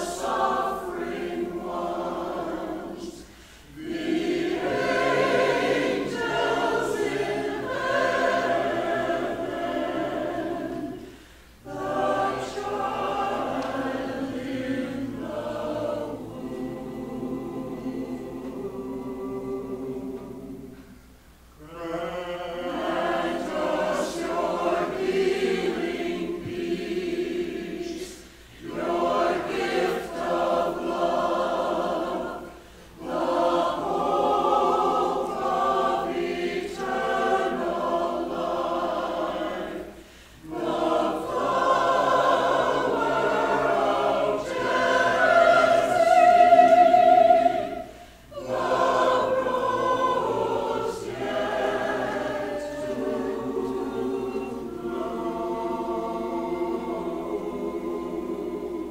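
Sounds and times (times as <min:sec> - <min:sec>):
choir singing a cappella: 0:00.0 - 0:58.9.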